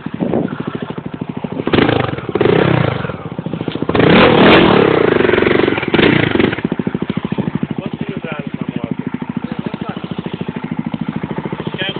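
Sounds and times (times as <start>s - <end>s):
motorcycle engine idling and revving: 0.0s - 11.9s.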